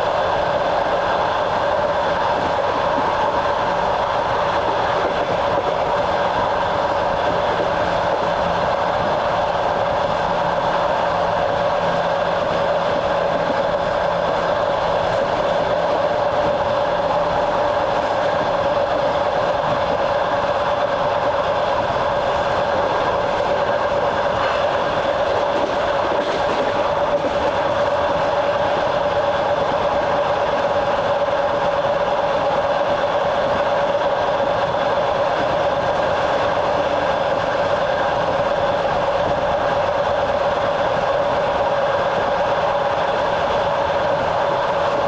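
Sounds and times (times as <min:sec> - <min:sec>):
train hum: 0:00.0 - 0:45.0
train wheels rumbling on rails: 0:00.0 - 0:45.0.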